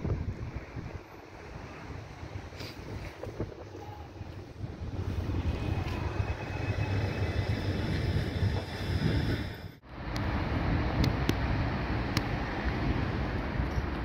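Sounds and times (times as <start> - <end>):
road traffic: 0.0 - 14.0
wind rumbling on microphone: 0.0 - 14.0.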